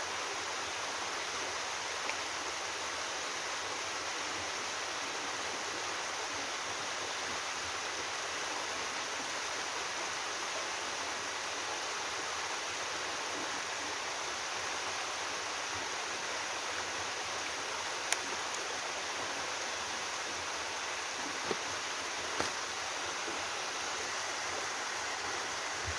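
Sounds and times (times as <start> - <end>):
waterfall rushing over rock: 0.0 - 25.9.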